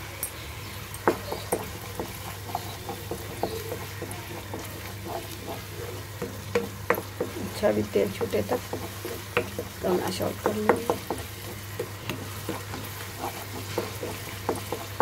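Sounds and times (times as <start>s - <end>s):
light sizzle of frying: 0.0s - 15.0s
wooden spatula scraping pan: 1.0s - 15.0s.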